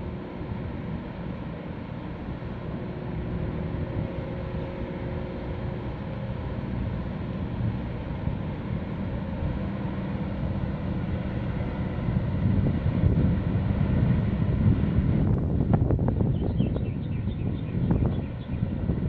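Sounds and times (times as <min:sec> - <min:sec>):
marine diesel engines droning: 0:00.0 - 0:19.0
wind noise on microphone: 0:00.0 - 0:19.0.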